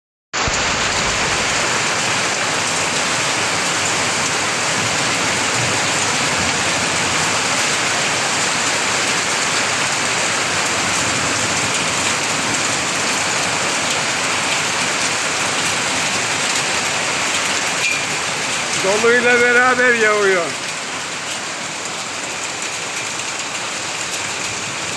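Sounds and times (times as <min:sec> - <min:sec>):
heavy rain and hail: 0:00.4 - 0:24.9.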